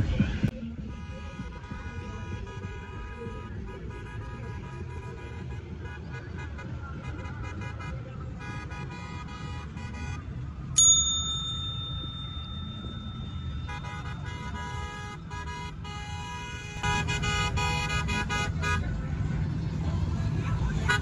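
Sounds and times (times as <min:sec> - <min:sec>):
vehicle horns honking: 0:00.2 - 0:10.8, 0:11.6 - 0:19.3, 0:20.4 - 0:21.0.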